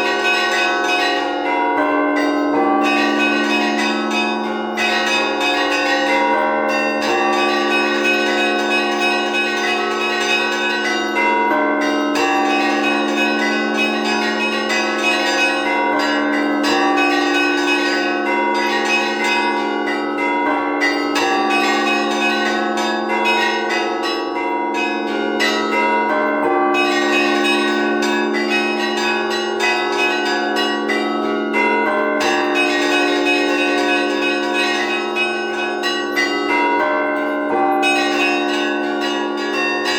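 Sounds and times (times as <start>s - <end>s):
big bells humming low: 0.0s - 39.9s.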